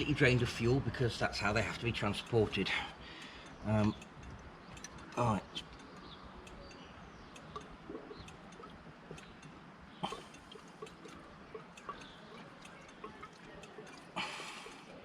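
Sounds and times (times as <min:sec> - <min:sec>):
clicks and knocks of handling: 0:01.8 - 0:14.9.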